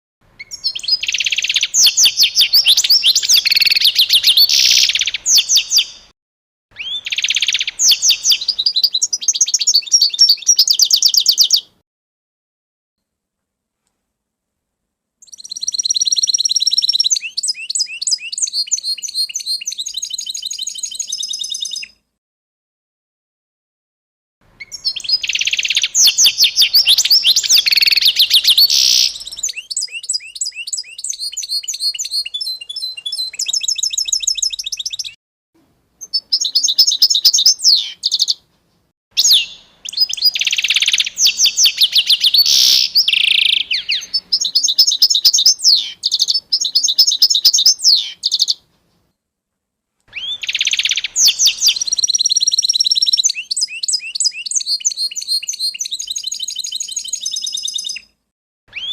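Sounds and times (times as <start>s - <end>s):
songbirds chirping and trilling: 0.3s - 6.1s, 6.7s - 11.8s, 15.2s - 22.0s, 24.5s - 35.2s, 36.0s - 38.5s, 39.2s - 49.1s, 50.1s - 58.9s.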